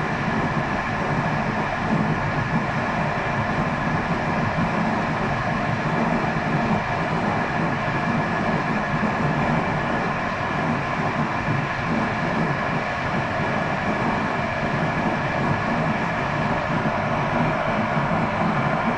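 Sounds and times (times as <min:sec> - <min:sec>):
train rumbling on track: 0:00.0 - 0:18.9.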